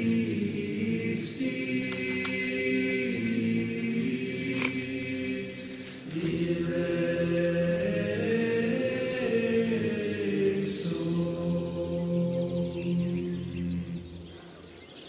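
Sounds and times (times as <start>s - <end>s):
voices singing a slow chant: 0.0s - 15.0s.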